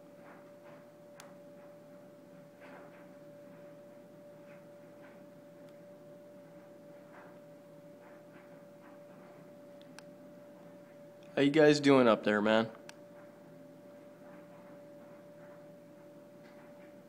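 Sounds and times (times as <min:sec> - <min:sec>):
faint high-pitched hum: 0:00.0 - 0:17.0.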